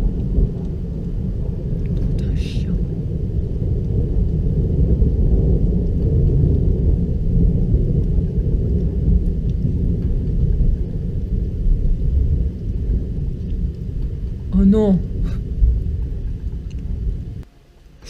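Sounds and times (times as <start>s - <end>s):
rolling thunder: 0.0s - 17.5s.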